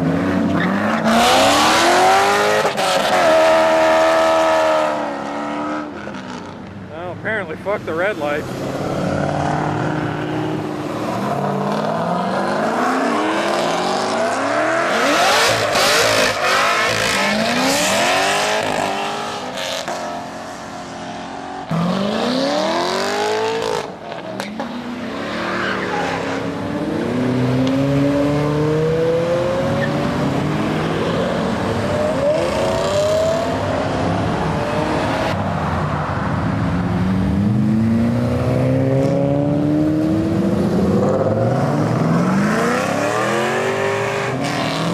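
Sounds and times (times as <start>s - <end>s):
muscle cars revving and accelerating: 0.0s - 35.4s, 36.7s - 44.9s.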